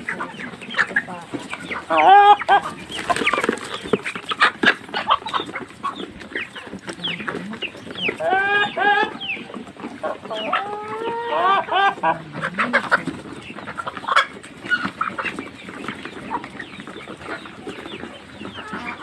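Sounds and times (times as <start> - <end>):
chicken wavering calls: 0.0 - 19.0
chickens clucking: 0.0 - 19.0.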